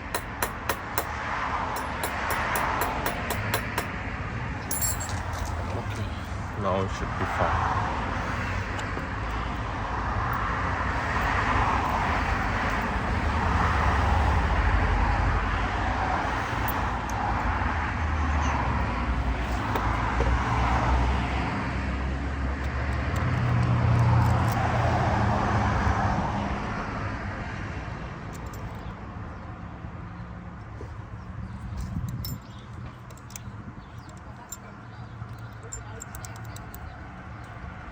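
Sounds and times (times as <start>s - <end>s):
road traffic passing: 0.0s - 37.9s.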